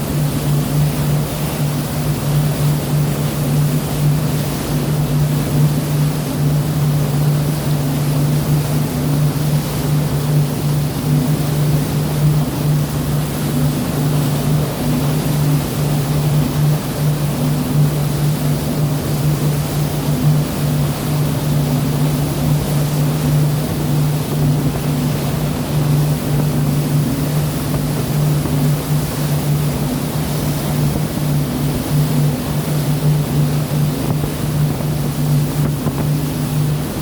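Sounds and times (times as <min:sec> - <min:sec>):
boat engine droning: 0:00.0 - 0:37.0
sea rushing: 0:00.0 - 0:37.0.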